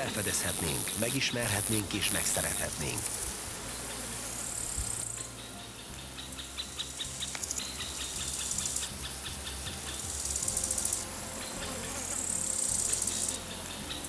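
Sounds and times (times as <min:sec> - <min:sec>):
bush-crickets trilling: 0:00.0 - 0:14.0.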